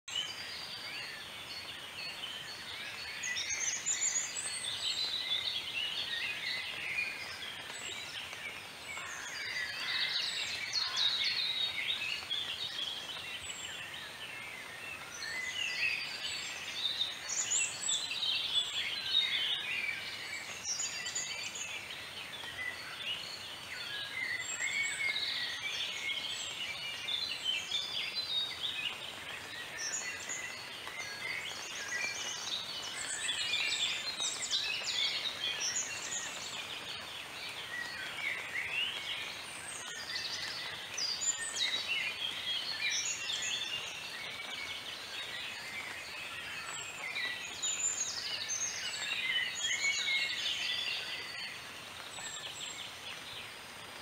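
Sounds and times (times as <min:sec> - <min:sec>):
birds chirping and trilling: 0:00.1 - 0:54.0
faint outdoor hiss: 0:00.1 - 0:54.0.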